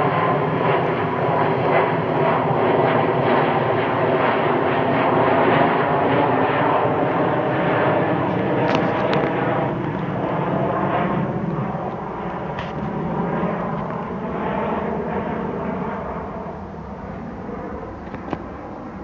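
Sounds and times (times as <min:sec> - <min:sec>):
jet airliner climbing rumble: 0:00.0 - 0:19.0.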